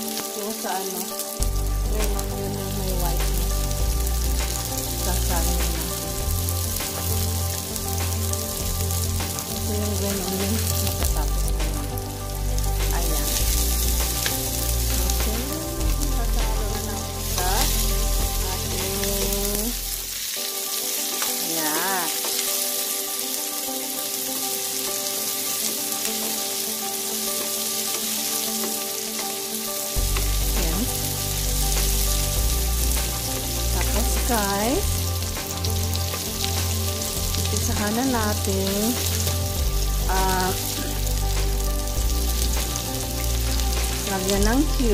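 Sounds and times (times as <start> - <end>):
food sizzling in hot oil: 0.0 - 44.9.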